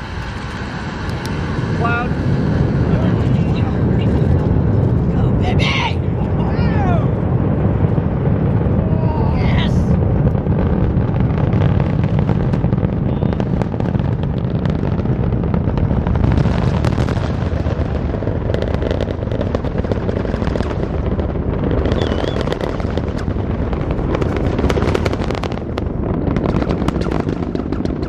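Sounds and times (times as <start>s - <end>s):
distant rocket engines rumbling: 0.0s - 28.0s.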